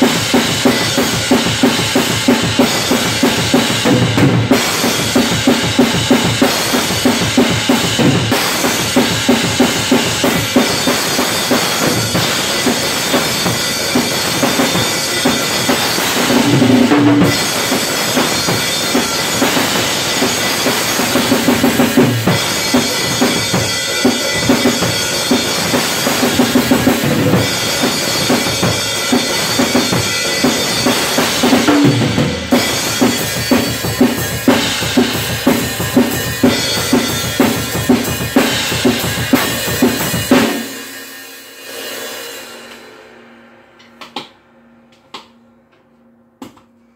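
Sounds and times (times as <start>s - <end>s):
bass drum and snare strokes: 0.0s - 42.9s
cymbals crashing: 0.0s - 44.0s.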